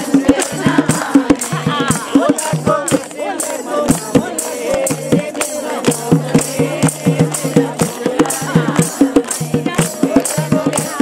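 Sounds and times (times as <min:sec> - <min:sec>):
drum strokes: 0:00.0 - 0:11.0
jingling percussion: 0:00.0 - 0:11.0
women singing in chorus: 0:00.0 - 0:11.0.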